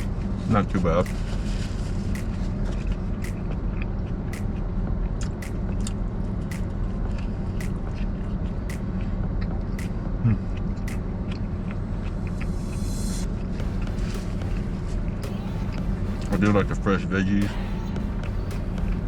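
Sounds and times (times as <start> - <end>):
short rising hum: 0.0 - 19.0
steady low rumble: 0.0 - 19.0.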